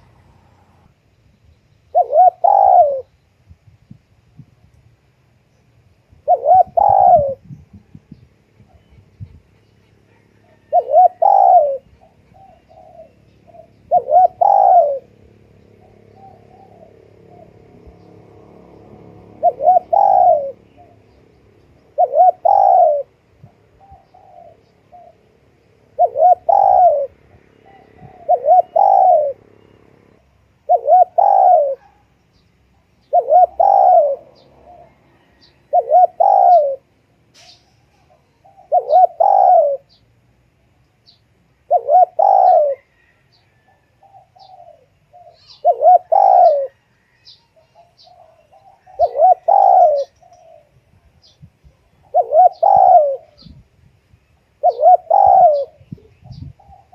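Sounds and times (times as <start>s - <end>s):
dove cooing: 1.9s - 3.2s, 6.1s - 8.0s, 8.6s - 21.2s, 21.8s - 25.3s, 25.9s - 29.5s, 30.6s - 32.1s, 33.0s - 40.0s, 41.6s - 53.6s, 54.6s - 56.9s.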